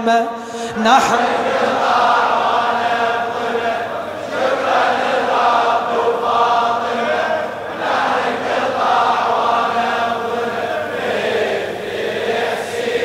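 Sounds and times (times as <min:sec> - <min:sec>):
crowd of men chanting: 0:00.7 - 0:13.0.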